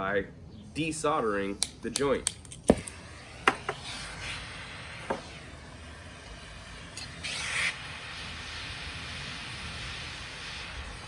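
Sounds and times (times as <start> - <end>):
torch flame hissing: 0.8 - 11.0.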